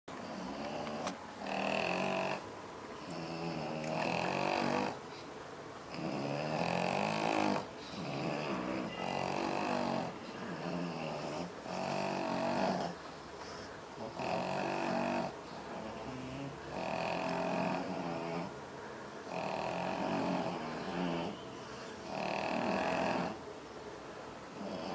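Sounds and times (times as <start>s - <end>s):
pets snoring: 0.1s - 5.1s, 5.9s - 18.6s, 19.2s - 23.4s, 24.5s - 24.9s.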